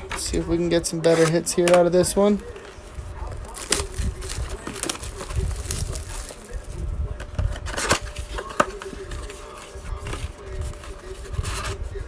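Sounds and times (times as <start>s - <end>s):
cards rustling and scraping: 0.0s - 12.0s.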